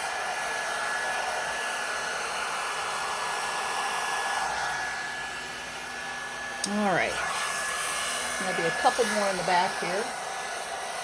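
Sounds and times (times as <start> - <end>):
hot-air styler blowing: 0.0 - 11.0.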